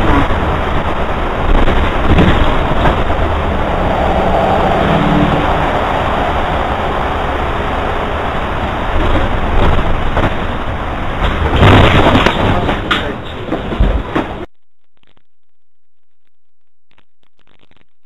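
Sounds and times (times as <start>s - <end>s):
bus engine and road noise: 0.0s - 14.5s.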